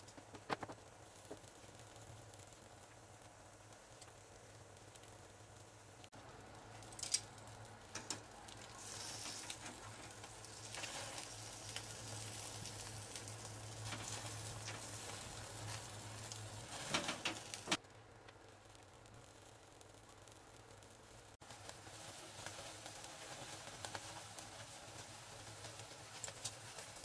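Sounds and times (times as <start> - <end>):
fish sizzling on a grill: 0.0 - 27.0
sharp pops and crackles: 0.0 - 27.0.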